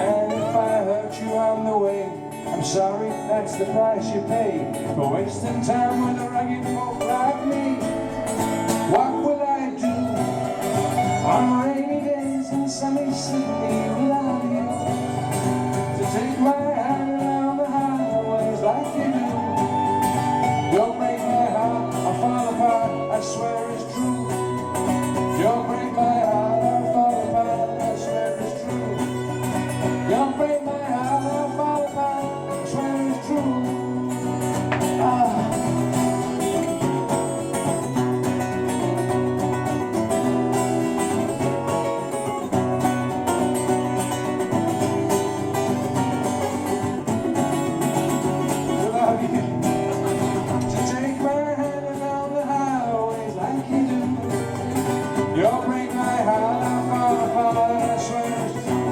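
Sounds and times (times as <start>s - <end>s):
acoustic folk music: 0.0s - 58.9s.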